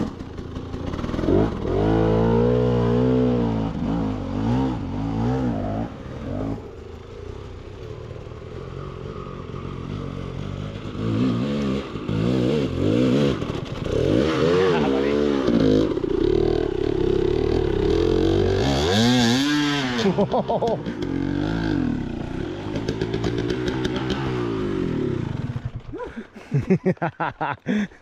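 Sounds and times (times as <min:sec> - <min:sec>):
dirt bike engine revving: 0:00.8 - 0:27.9.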